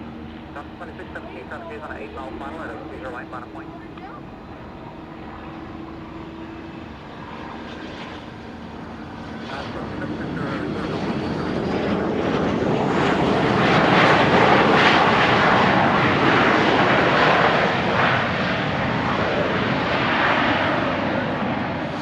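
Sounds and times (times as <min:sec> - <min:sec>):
airplane engine passing: 0:00.0 - 0:22.0.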